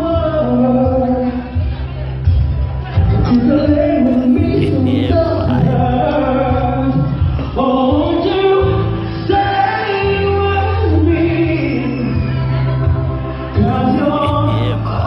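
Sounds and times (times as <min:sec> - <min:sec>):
song with vocals over beat: 0:00.0 - 0:15.0.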